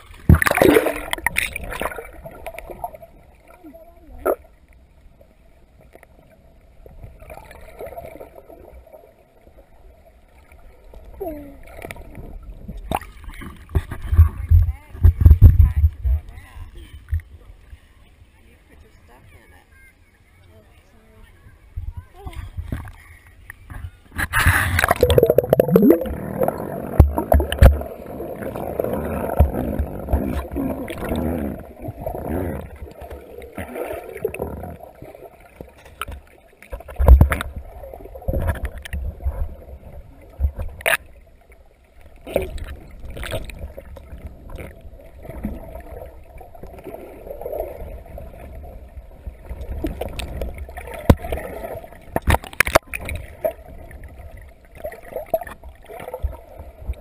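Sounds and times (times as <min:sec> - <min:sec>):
muffled water sloshing underwater: 0:00.0 - 0:57.0.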